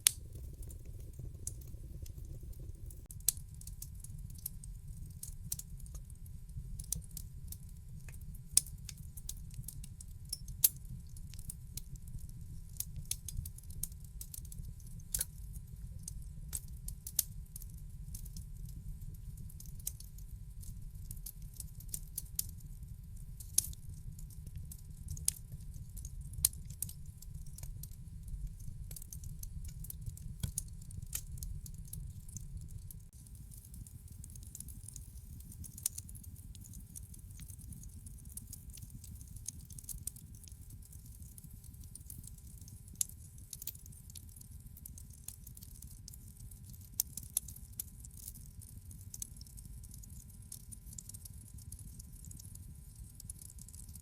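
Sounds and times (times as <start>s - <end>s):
low rumble of flames: 0.0s - 49.9s
wood fire crackling: 0.0s - 53.7s.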